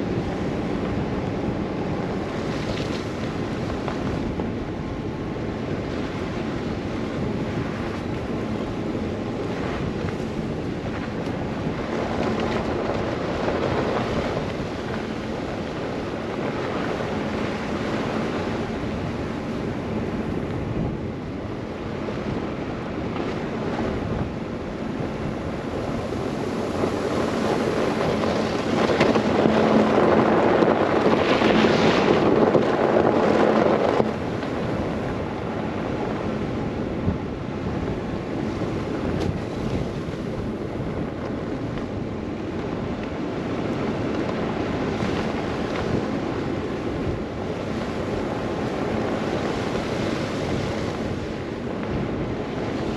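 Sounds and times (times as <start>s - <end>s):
blizzard wind blowing: 0.0s - 52.9s.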